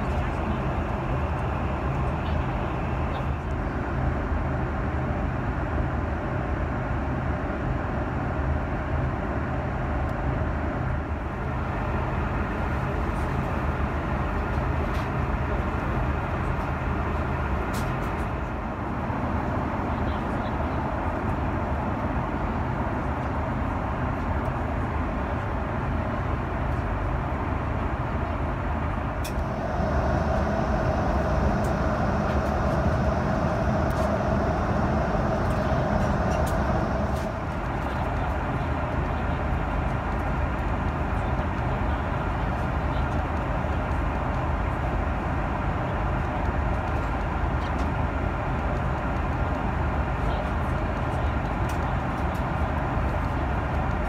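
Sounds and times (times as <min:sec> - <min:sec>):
aircraft cabin rumble and hiss: 0:00.0 - 0:54.0.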